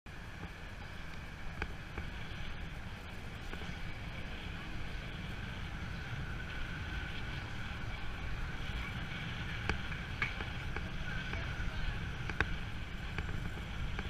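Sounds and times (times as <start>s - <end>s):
street traffic hiss: 0.1s - 14.0s
wind rumbling on microphone: 0.1s - 14.0s.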